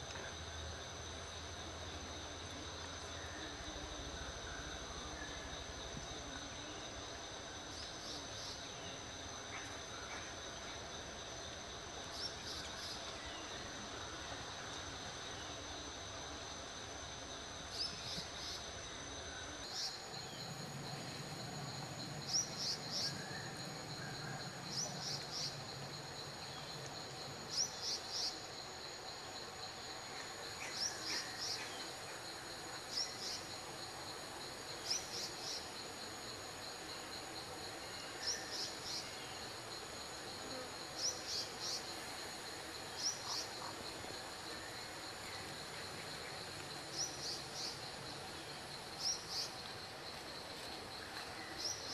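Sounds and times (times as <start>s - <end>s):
insects trilling high-pitched: 0.3s - 51.9s.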